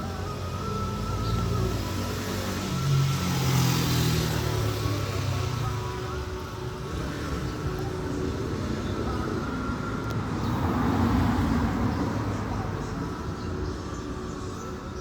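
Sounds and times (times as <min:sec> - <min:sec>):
vehicle traffic noise: 0:00.0 - 0:15.0.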